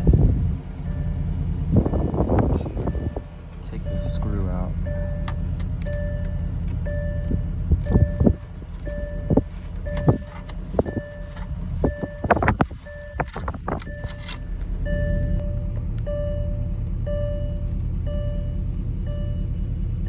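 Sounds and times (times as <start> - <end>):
car warning chime dinging: 0.0 - 20.0
low steady hum: 0.0 - 20.0.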